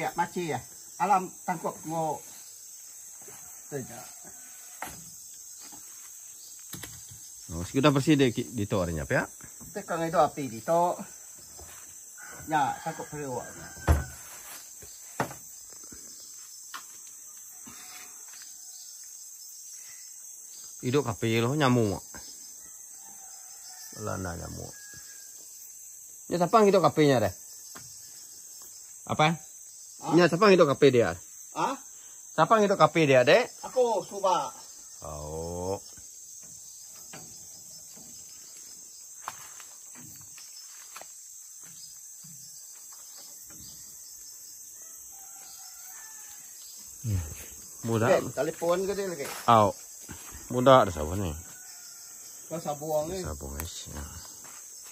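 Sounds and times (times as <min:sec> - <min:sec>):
insects chorus: 0:00.0 - 0:54.9.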